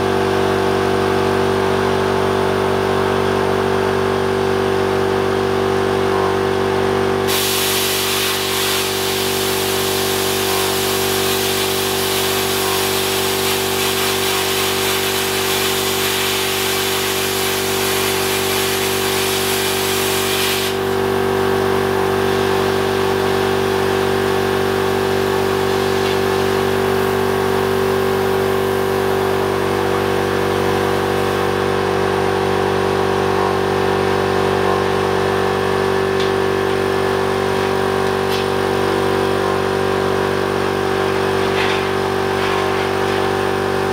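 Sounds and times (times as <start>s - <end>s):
steady motor hum: 0.0s - 43.9s.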